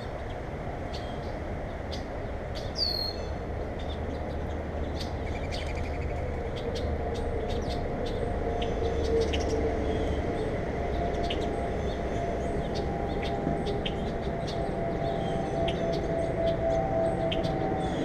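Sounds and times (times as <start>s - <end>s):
low rumble and hum: 0.0s - 18.0s.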